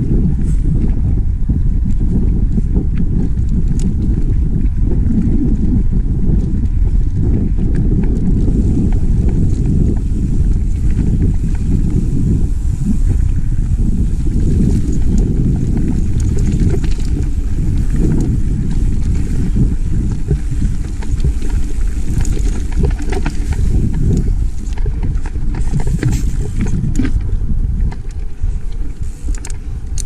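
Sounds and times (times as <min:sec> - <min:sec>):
bike tyres rumbling on trail: 0:00.0 - 0:30.0
wind on microphone: 0:00.0 - 0:30.0.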